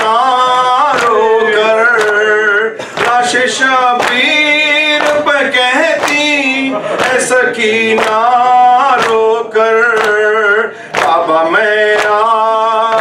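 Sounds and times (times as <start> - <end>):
man singing a lament: 0.0 - 13.0
sharp rhythmic beats: 0.0 - 13.0.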